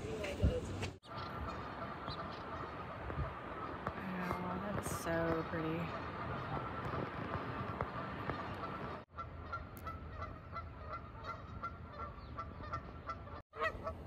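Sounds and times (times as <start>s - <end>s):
outdoor background noise: 0.0s - 14.0s
geese honking: 1.0s - 14.0s.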